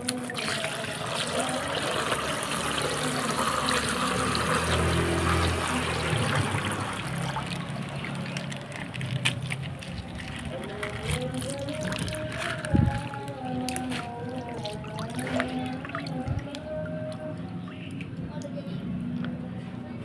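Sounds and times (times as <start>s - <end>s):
liquid pouring and trickling: 0.0s - 18.2s.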